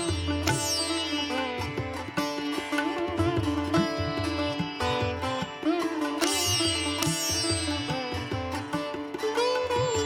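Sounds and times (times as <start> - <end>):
plucked string instrument: 0.0 - 10.0.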